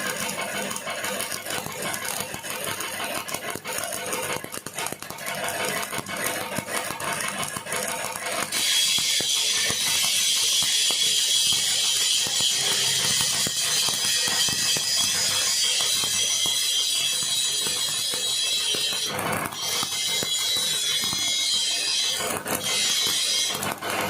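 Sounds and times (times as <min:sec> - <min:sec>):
welding arc crackling hiss: 0:00.0 - 0:24.0.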